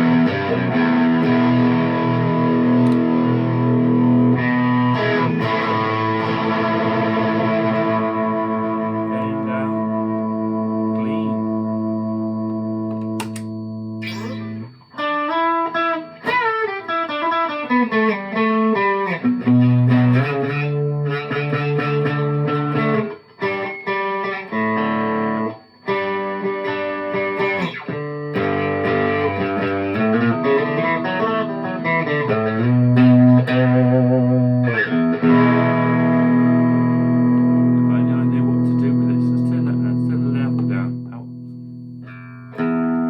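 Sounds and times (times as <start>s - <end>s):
electric guitar playing: 0.0s - 43.0s.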